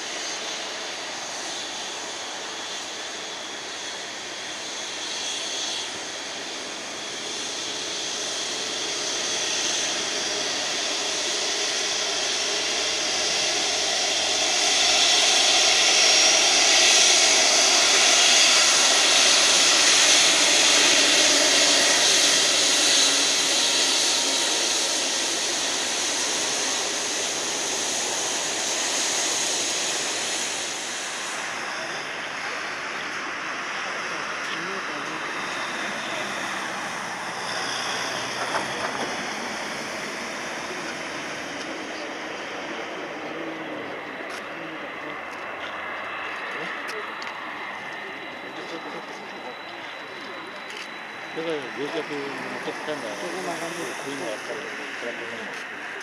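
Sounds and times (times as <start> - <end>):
jet aircraft taxiing: 0.0 - 56.0.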